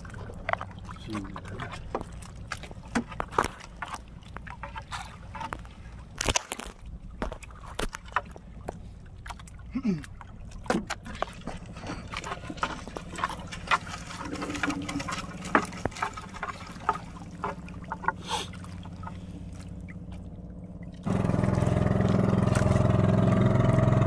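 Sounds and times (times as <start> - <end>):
water dripping and splashing: 0.0 - 23.2
boat engine running: 0.0 - 24.0.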